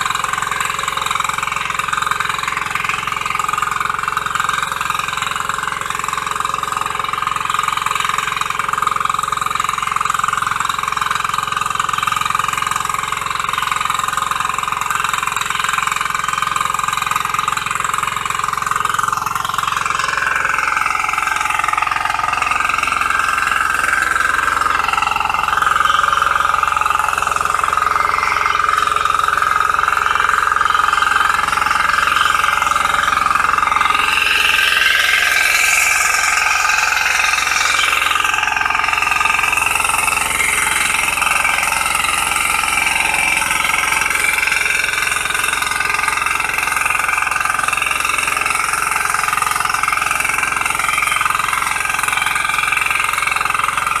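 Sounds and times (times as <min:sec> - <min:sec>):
small engine tilling soil: 0:00.0 - 0:54.0.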